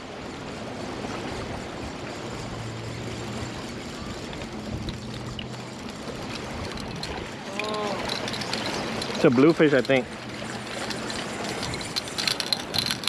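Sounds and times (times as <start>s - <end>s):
small waves lapping against rocks: 0.1s - 13.0s.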